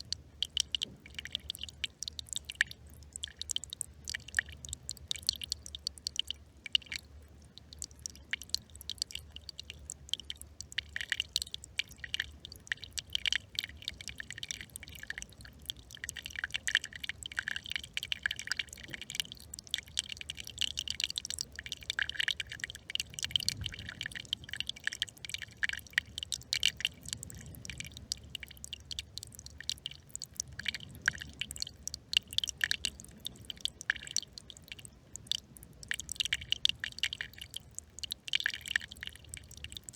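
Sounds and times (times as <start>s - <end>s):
brook trickling and babbling: 0.0s - 39.9s.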